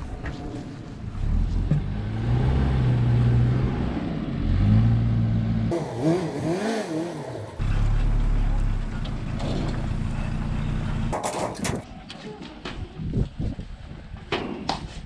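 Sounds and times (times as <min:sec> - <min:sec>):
vehicle engine humming: 0:00.0 - 0:14.2.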